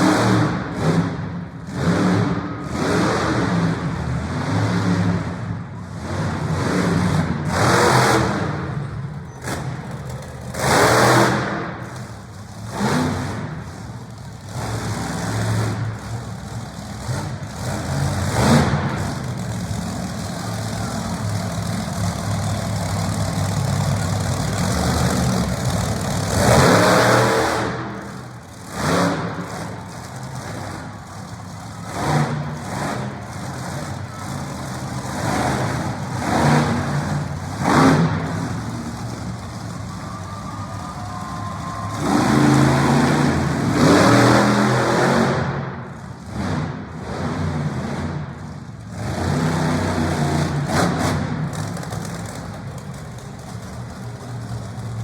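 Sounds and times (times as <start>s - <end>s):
truck engine idling and revving: 0.0s - 55.0s.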